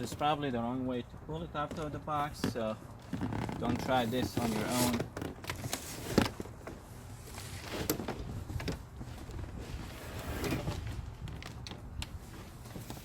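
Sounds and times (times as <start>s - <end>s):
knocks and scrapes of lawn mower handling: 1.6s - 13.0s.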